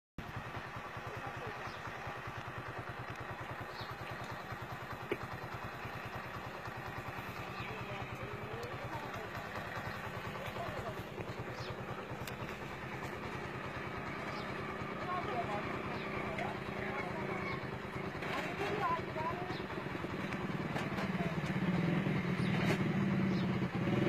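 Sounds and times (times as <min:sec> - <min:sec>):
engine idling: 0:00.2 - 0:24.0.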